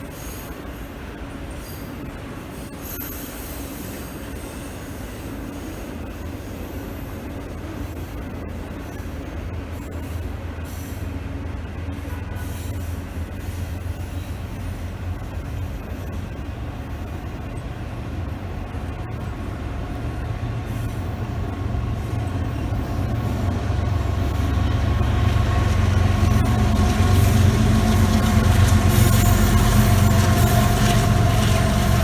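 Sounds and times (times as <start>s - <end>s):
train engine tones: 0.0s - 32.0s
train rumbling: 0.0s - 32.0s.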